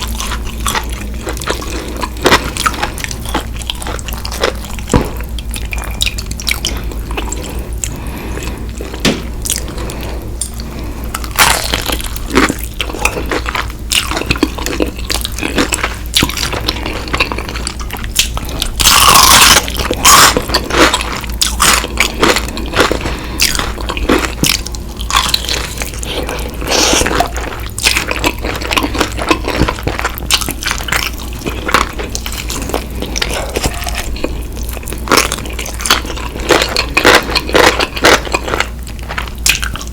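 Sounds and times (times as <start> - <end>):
chewing and crunching: 0.0 - 39.9
low steady hum: 0.0 - 39.9.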